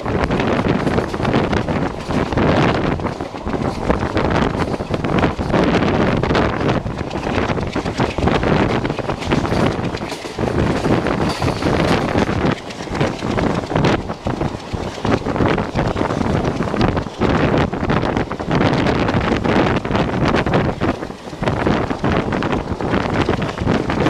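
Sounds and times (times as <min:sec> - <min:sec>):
train moving on rails: 0:00.0 - 0:24.0
wind against microphone: 0:00.0 - 0:24.0.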